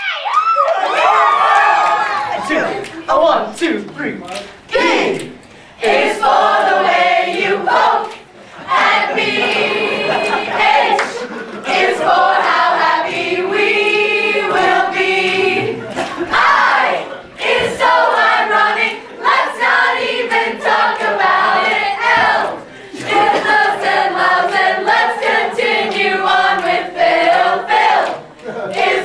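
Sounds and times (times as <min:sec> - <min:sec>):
group singing: 0:01.0 - 0:29.0.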